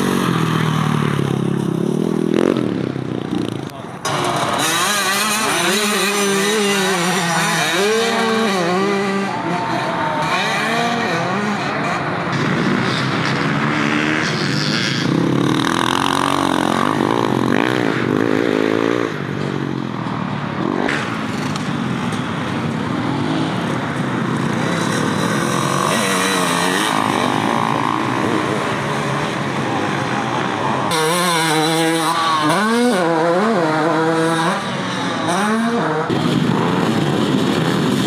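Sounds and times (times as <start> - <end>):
motocross motorcycles revving: 0.0 - 38.0.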